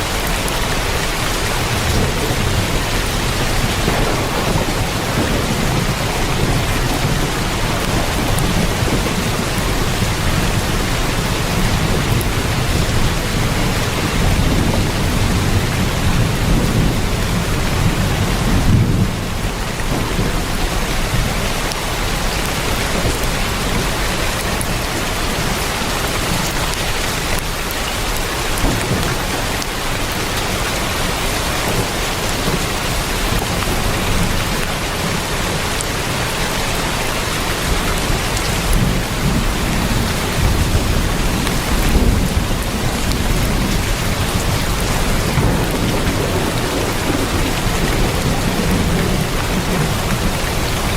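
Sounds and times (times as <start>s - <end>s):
heavy rain on a tin roof: 0.0s - 50.9s.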